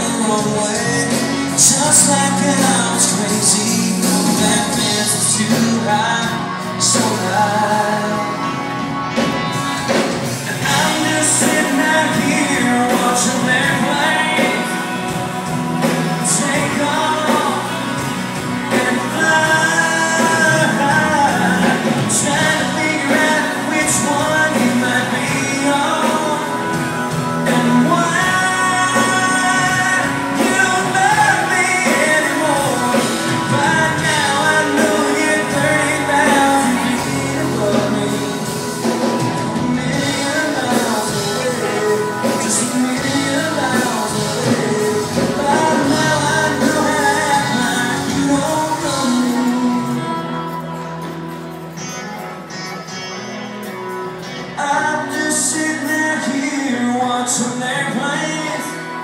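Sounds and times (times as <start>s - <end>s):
live country band playing: 0.0s - 59.0s
person singing: 0.0s - 59.0s.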